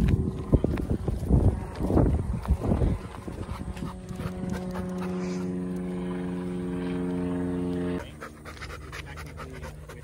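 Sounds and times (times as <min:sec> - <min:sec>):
engine drone: 0:00.0 - 0:10.0.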